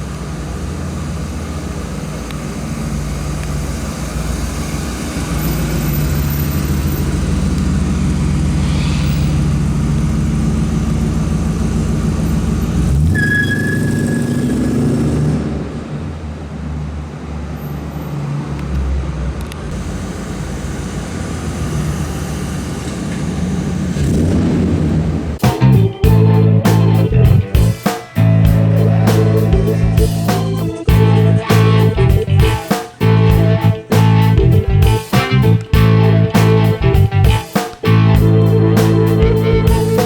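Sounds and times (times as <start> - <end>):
car engine running: 0.0 - 13.2, 19.8 - 40.0.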